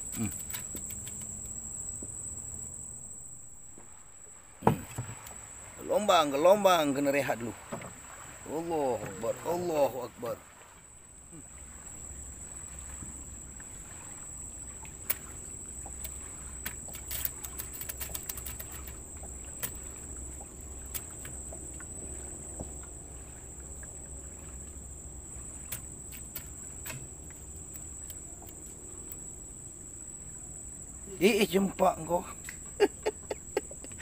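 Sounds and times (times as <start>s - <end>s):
low steady rumble: 0.0s - 10.2s, 10.8s - 17.5s, 18.2s - 31.3s
insects chirring: 0.0s - 34.0s.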